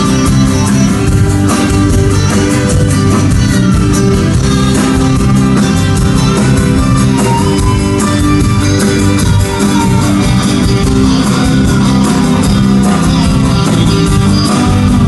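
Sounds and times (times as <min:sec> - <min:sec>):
live country rock band: 0:00.0 - 0:15.0.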